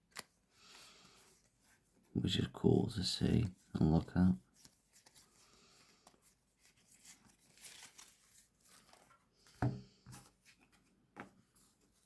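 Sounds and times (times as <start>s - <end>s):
trading cards rustling and crinkling: 0.0s - 12.0s.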